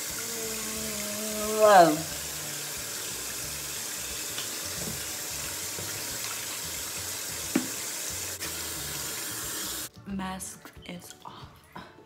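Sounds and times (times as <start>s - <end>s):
water running from sink tap: 0.0s - 9.9s.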